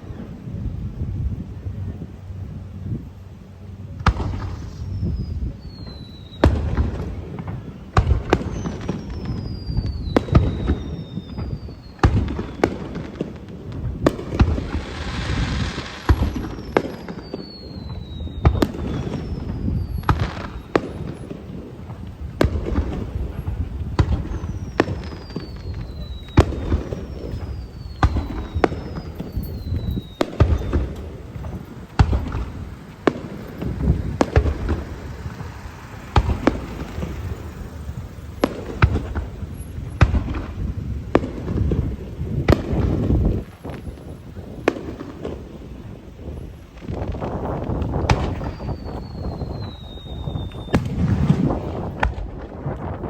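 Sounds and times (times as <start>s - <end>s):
descending firework whistles: 0.0s - 53.0s
hissing crackle: 3.6s - 53.0s
firework shell bursts: 4.1s - 52.8s.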